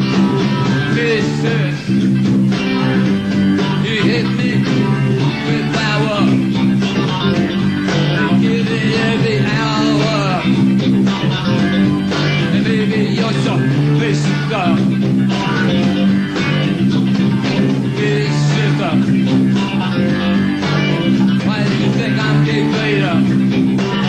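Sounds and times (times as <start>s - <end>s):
electric guitar lead lines: 0.0s - 24.0s
live rock band playing: 0.0s - 24.0s.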